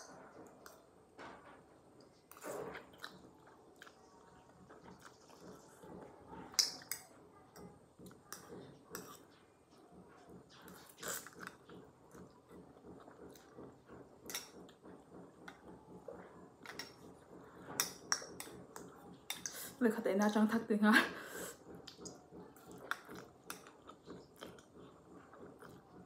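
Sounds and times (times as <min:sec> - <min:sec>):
sharp eating noises: 0:01.9 - 0:19.8, 0:21.3 - 0:26.0
chewing noodles: 0:02.0 - 0:19.8, 0:21.5 - 0:26.0.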